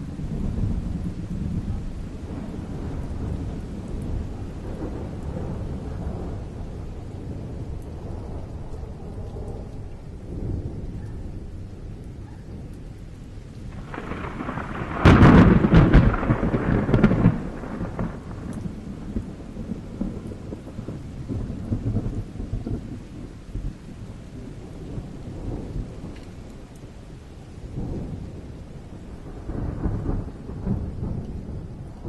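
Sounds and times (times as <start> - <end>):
loud crackling thunderclap: 0.0 - 27.0, 27.6 - 32.0
low rolling thunder: 0.0 - 32.0
rain: 0.0 - 32.0.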